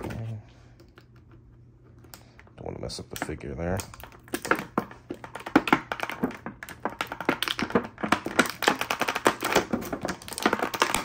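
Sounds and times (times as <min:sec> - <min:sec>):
plastic blister tray crackling: 0:02.1 - 0:11.0.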